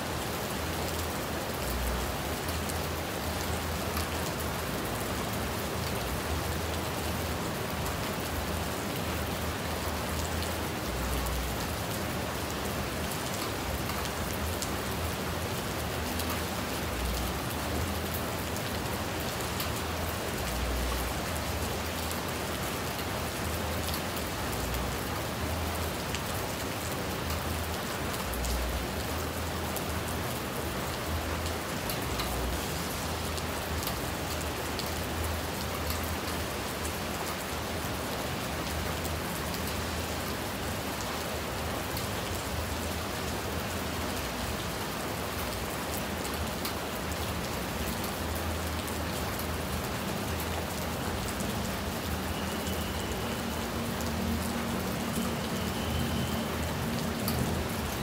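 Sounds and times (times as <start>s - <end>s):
rain falling on stream: 0.0s - 58.0s.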